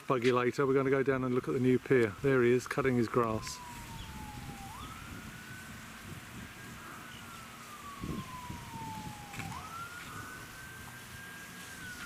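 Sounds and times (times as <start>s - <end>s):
siren wailing: 1.2s - 12.0s.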